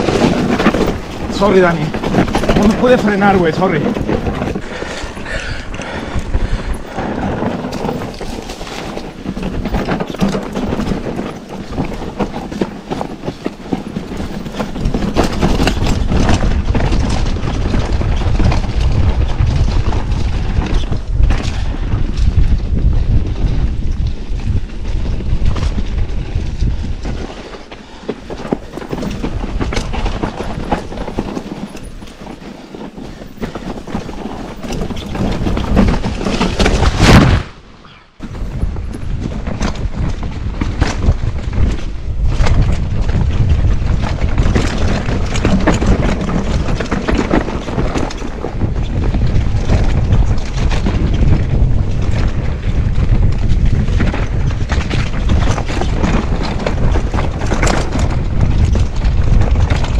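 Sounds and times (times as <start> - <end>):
bike rattles and knocks: 0.0 - 59.9
tyres rumbling on loose dirt: 0.0 - 59.9.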